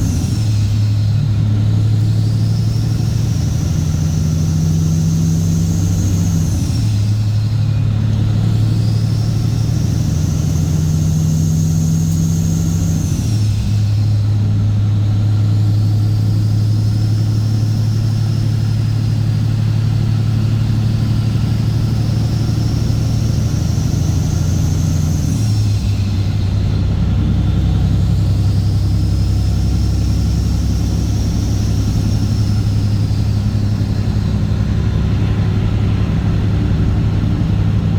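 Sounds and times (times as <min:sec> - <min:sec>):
high turbo whistle: 0:00.0 - 0:20.7, 0:21.5 - 0:37.9
truck diesel engine under load: 0:00.0 - 0:37.9.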